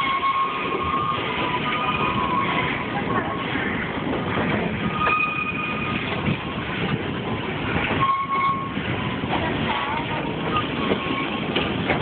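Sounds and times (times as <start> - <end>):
train cars rumbling and rattling: 0.0 - 12.0.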